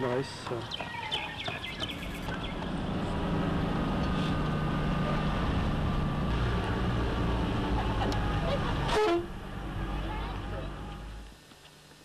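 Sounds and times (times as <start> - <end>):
vehicle engine drone: 0.0 - 11.5.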